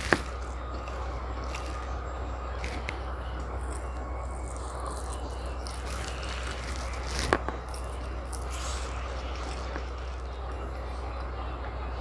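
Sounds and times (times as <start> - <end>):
chewing and wet mouth sounds: 0.0 - 11.4
steady low hum: 0.0 - 12.0.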